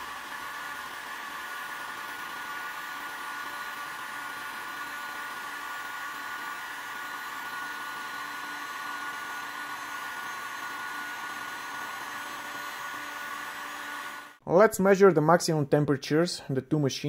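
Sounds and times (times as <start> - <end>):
heat gun blowing with whine: 0.0 - 14.4.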